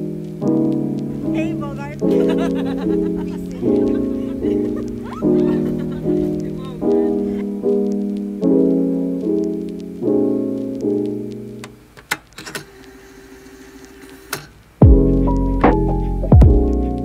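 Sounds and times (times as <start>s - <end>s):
piano-like keyboard chords: 0.0s - 12.0s, 14.8s - 17.0s.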